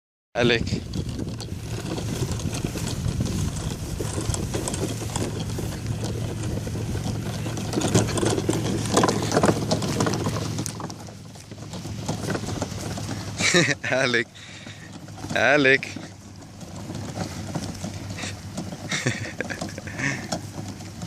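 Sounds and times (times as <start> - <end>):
clatter of knocks and rattles: 0.4 - 21.0
motor hum: 0.4 - 21.0.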